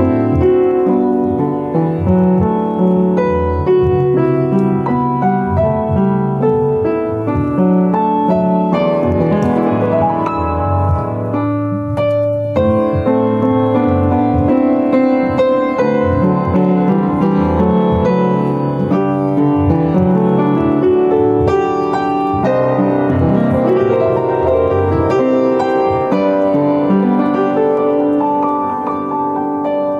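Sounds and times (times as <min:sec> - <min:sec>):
solo piano melody: 0:00.0 - 0:29.9.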